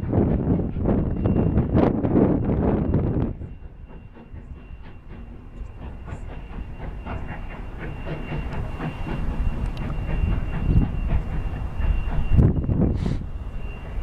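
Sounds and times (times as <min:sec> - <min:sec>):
steam locomotive exhaust chuffs: 0:00.0 - 0:14.0
wind buffeting microphone: 0:00.0 - 0:14.0.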